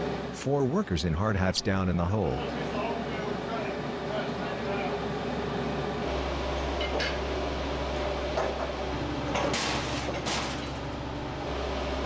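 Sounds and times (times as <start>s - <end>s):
heavy machinery engine humming: 0.0s - 12.0s.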